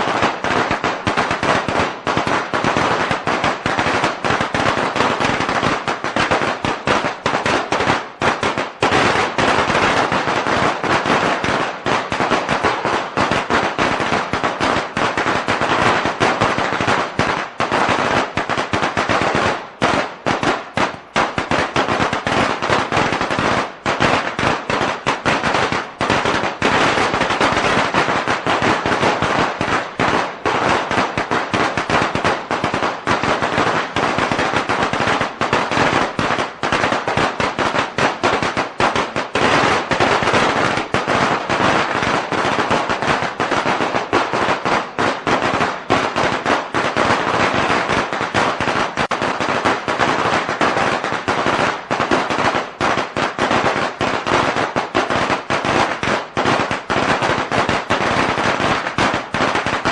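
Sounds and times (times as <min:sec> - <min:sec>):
firecrackers cracking: 0:00.0 - 0:59.9.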